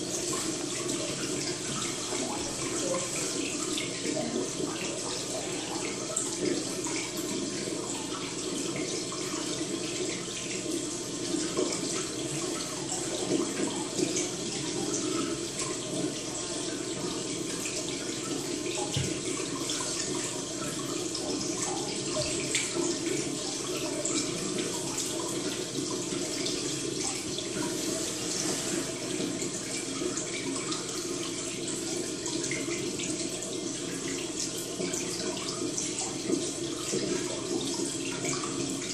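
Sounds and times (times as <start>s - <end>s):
trickling water: 0.0s - 38.9s.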